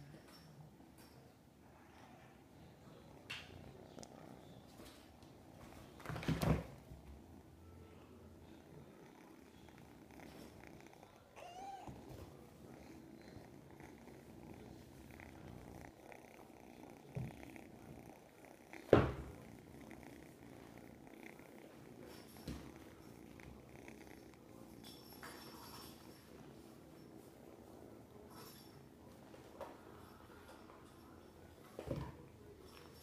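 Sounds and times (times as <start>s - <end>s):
kitten purring: 1.6s - 28.5s.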